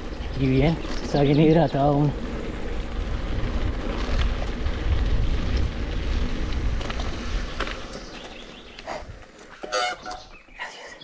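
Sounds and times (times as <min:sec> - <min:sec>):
bike clicks and rattles: 0:00.0 - 0:10.5
wind buffeting microphone: 0:00.0 - 0:10.6.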